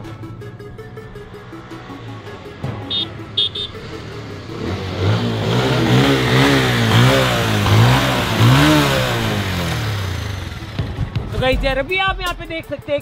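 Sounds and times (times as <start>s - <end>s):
motorcycle engine revving: 0.0s - 11.5s.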